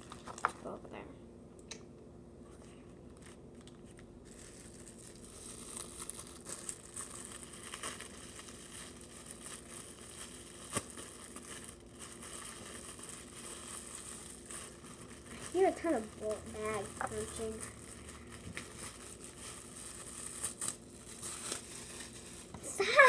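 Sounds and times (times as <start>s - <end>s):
plastic bag crinkling: 0.0s - 0.7s, 3.0s - 23.0s
faint steady hum: 0.0s - 23.0s.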